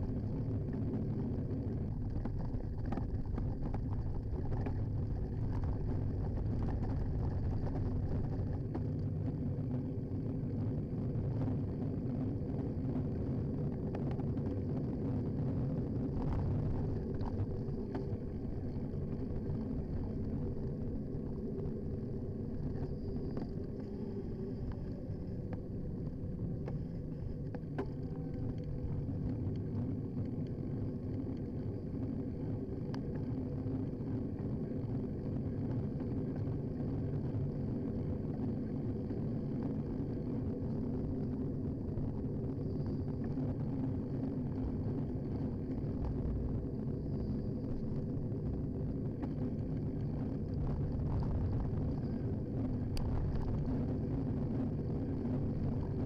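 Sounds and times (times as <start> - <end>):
bicycle tyre road rumble: 0.0 - 56.0.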